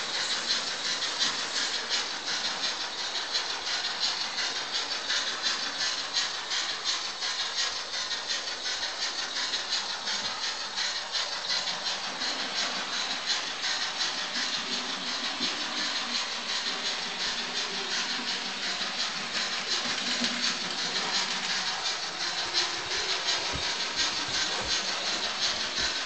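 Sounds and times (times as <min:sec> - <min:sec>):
model steam locomotive chuffing: 0:00.0 - 0:26.0.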